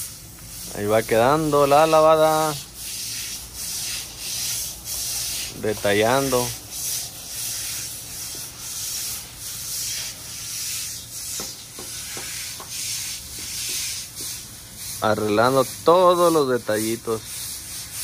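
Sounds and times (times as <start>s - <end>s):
stiff brooms scrubbing wet concrete: 0.0s - 18.0s.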